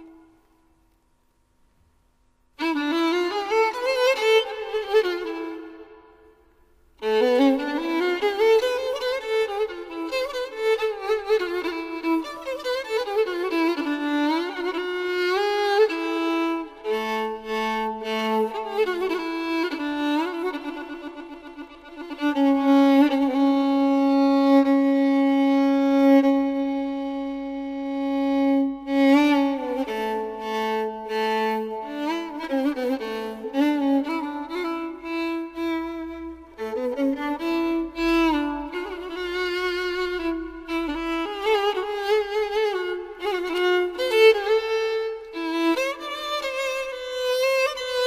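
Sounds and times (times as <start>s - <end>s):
slow violin melody: 0.0s - 0.9s, 2.5s - 48.0s.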